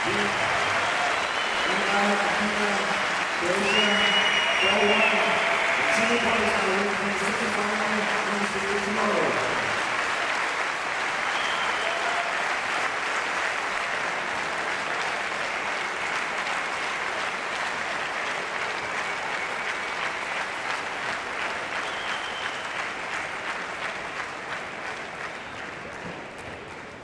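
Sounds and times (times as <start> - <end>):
crowd applauding: 0.0 - 27.0.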